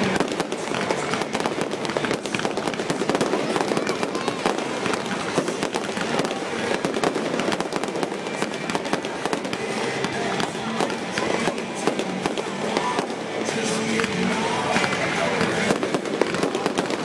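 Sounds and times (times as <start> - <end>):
fireworks bursting with crackles: 0.0 - 17.0.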